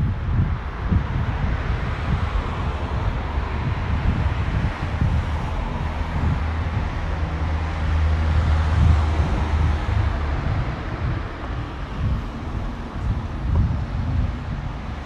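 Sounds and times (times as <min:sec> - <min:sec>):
steady low hum: 0:00.0 - 0:15.0
vehicle rumble: 0:00.0 - 0:15.0.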